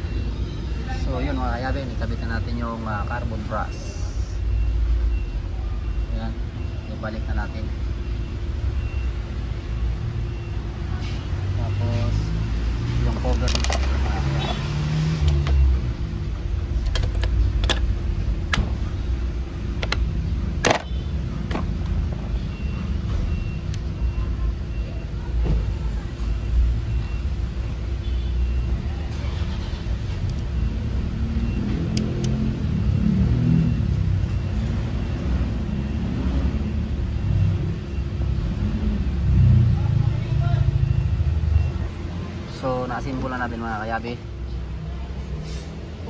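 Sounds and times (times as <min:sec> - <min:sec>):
engine hum: 0:03.4 - 0:46.0.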